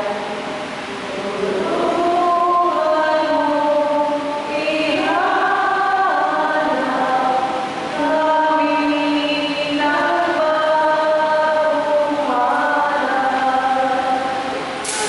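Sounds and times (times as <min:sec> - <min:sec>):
church choir singing a hymn: 0:00.0 - 0:15.0.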